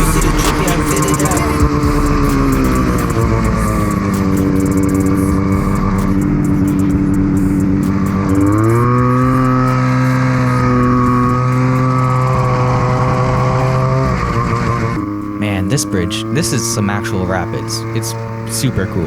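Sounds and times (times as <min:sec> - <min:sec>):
snowmobile engine at speed: 0:00.0 - 0:19.0.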